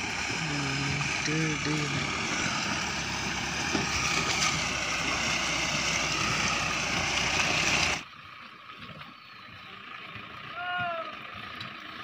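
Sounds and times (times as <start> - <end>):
truck diesel engine in mud: 0.0 - 12.0.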